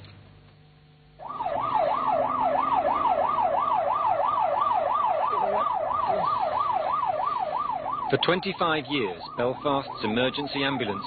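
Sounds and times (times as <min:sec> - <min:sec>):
ambulance siren wailing: 0:01.2 - 0:11.0.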